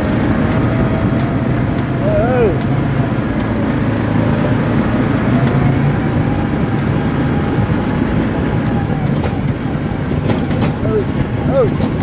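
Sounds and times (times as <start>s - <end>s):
atv engine droning: 0.0s - 12.0s.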